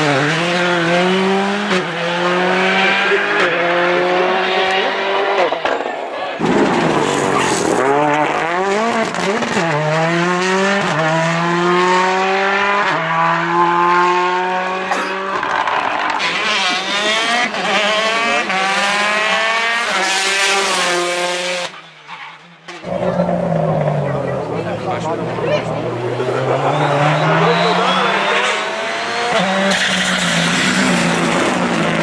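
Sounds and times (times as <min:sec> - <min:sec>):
rally car engine at full throttle: 0:00.0 - 0:32.0
second rally car engine: 0:00.0 - 0:32.0.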